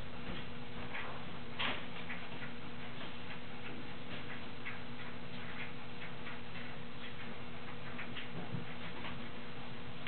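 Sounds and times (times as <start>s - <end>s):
steady low hum: 0.0s - 10.0s
light ticks and clicks: 0.2s - 9.6s.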